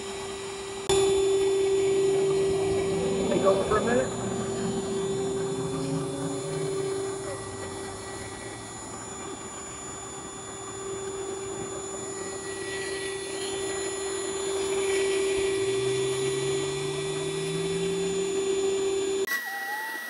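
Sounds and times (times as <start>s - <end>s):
shop vacuum running: 0.0s - 19.3s.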